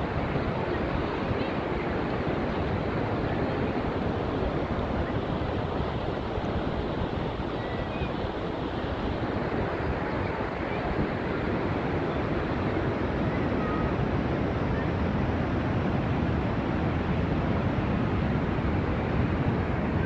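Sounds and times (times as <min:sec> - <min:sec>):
ocean surf: 0:00.0 - 0:20.0
wind rumbling on microphone: 0:00.0 - 0:20.0.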